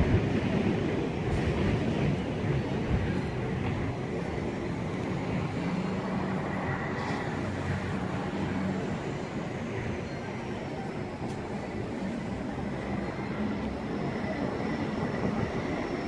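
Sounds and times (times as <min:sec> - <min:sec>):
subway train rumbling on track: 0:00.0 - 0:16.0.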